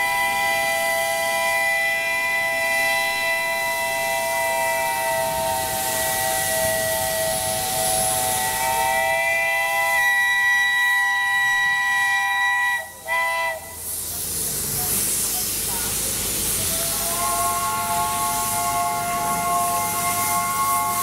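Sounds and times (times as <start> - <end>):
steam locomotive chime whistle: 0.0 - 13.9, 16.7 - 21.0
steam hissing: 0.0 - 21.0.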